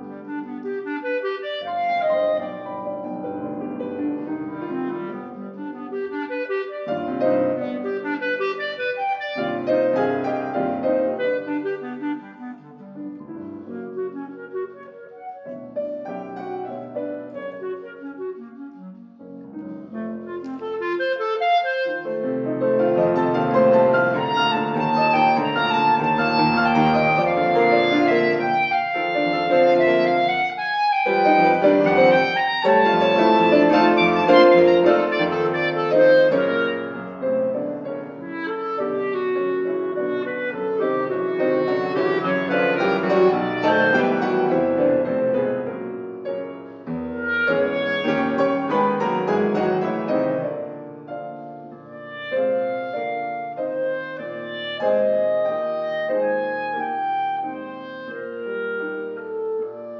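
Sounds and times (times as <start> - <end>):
clarinet melody: 0.0 - 59.9
piano accompaniment: 0.0 - 59.9.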